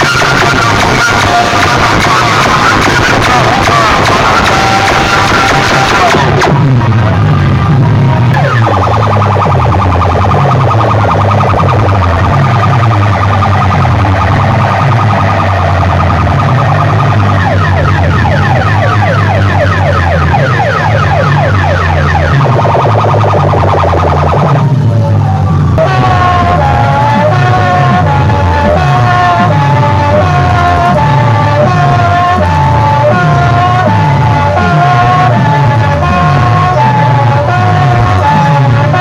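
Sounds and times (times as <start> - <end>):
heavy steady bass: 0.0 - 39.0
siren-like electronic warble: 0.0 - 39.0.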